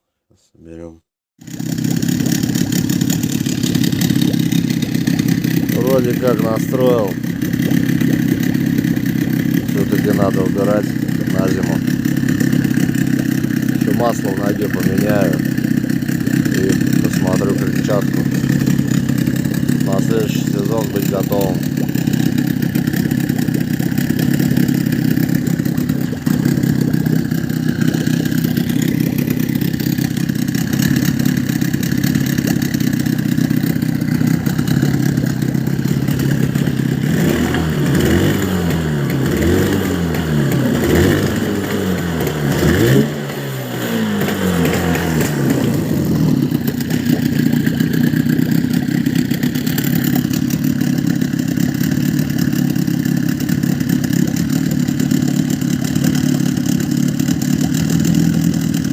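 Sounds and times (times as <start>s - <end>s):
outboard motor idling and revving: 1.4s - 58.9s.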